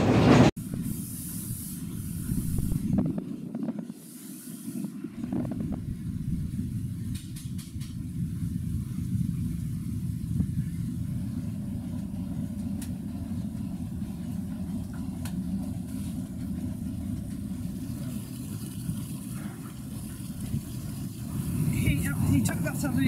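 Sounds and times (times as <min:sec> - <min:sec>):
steamship engine rumble: 0:00.0 - 0:23.0.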